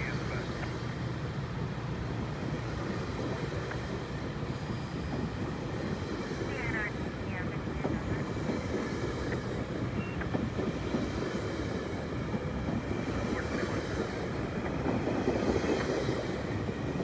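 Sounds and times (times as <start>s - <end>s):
steel wheels running on rails: 2.2s - 17.0s.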